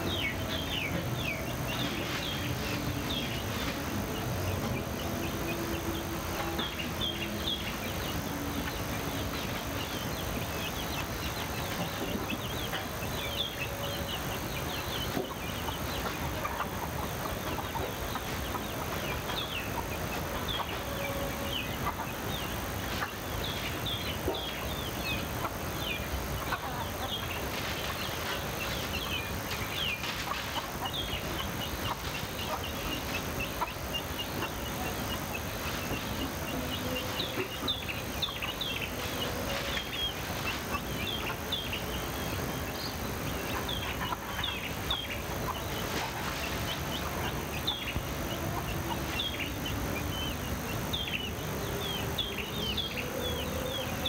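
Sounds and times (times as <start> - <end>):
chickens clucking: 0.0 - 54.0
small birds chirping: 0.0 - 54.0
steady background hiss: 0.0 - 54.0.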